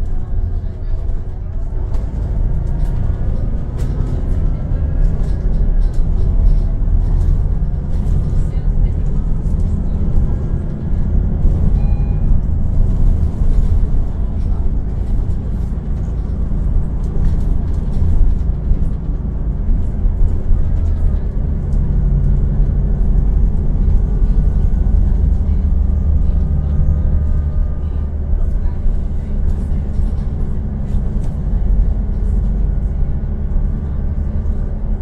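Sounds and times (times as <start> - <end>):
bus engine droning: 0.0 - 35.0.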